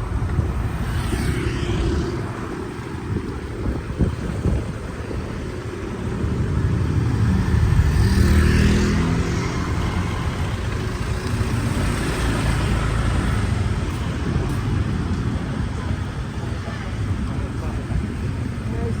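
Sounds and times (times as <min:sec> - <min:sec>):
motorbike engine: 0:00.0 - 0:18.8
wind rumble: 0:00.0 - 0:19.0.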